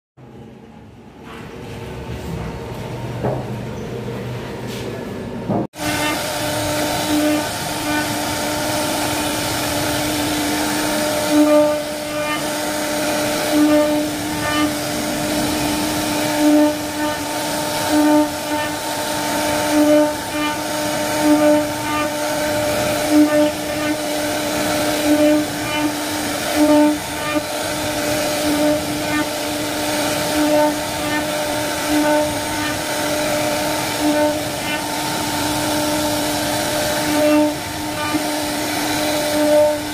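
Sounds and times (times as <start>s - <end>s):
router cutting wood: 5.8s - 39.9s.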